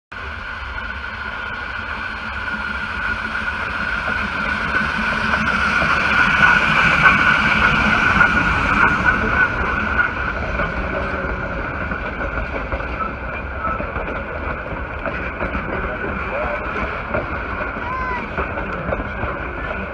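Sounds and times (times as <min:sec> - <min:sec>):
high squeal of train: 0:00.1 - 0:19.9
train rumbling: 0:00.1 - 0:19.9.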